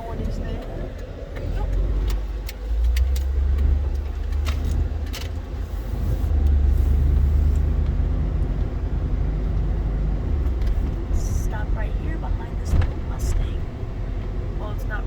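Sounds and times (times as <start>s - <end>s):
tyres and air rumble: 0.0s - 15.0s.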